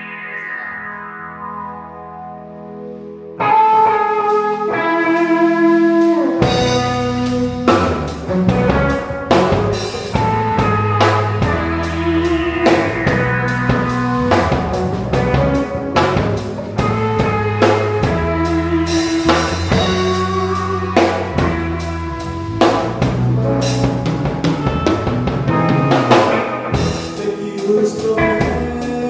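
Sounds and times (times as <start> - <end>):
bass: 0.0 - 29.0
drums: 0.0 - 29.0
guitar: 0.0 - 29.0.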